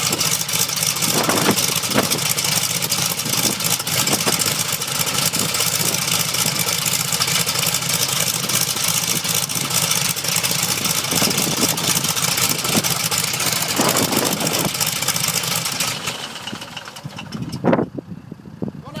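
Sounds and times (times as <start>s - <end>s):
generator engine running: 0.0s - 18.9s.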